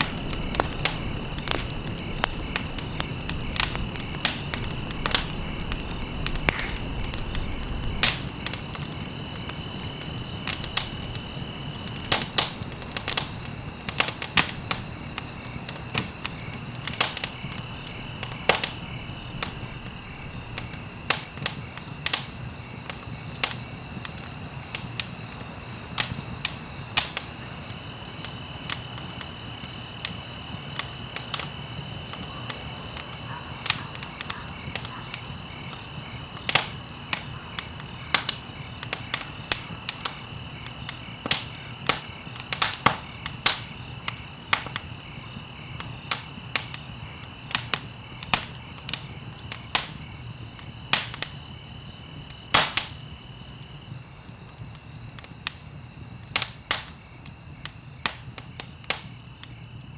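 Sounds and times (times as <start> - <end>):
sharp snaps and pops: 0.0 - 51.5, 52.2 - 59.9
wood fire crackling: 0.0 - 59.9.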